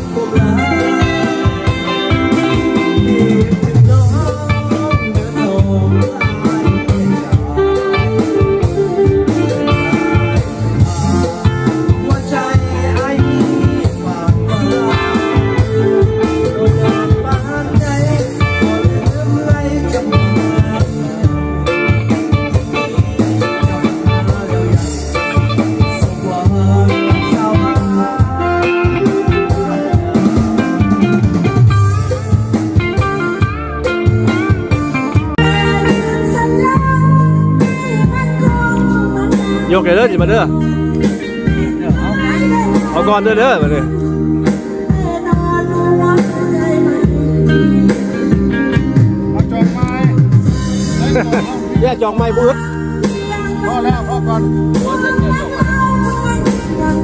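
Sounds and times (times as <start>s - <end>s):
man singing into a microphone: 0.0s - 32.1s, 34.5s - 49.8s, 50.8s - 57.0s
live band playing: 0.0s - 57.0s.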